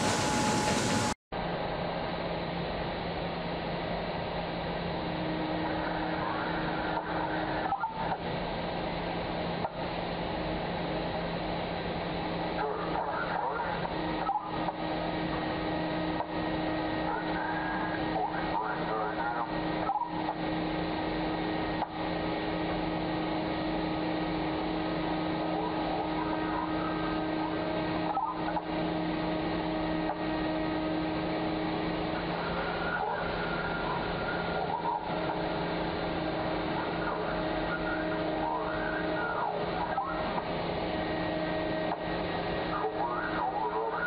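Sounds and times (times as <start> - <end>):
underground machinery drone: 0.0 - 44.0.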